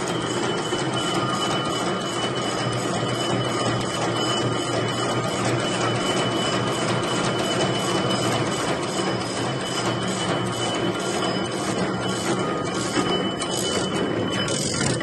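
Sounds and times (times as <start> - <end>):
machine clattering: 0.0 - 15.0.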